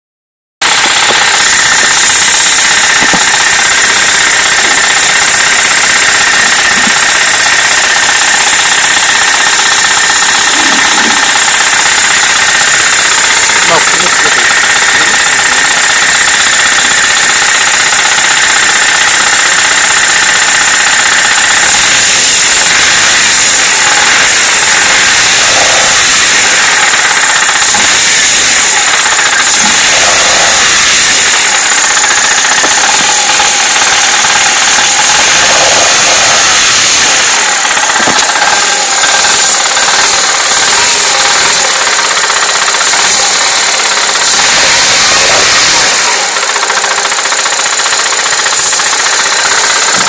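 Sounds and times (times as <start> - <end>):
car engine running: 0.6 - 50.0
rapid engine knocking: 0.6 - 50.0.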